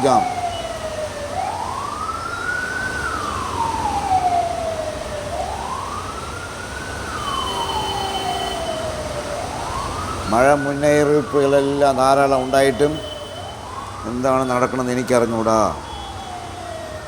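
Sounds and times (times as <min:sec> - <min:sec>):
ambulance siren wailing: 0:00.0 - 0:17.0
traffic: 0:00.0 - 0:17.0.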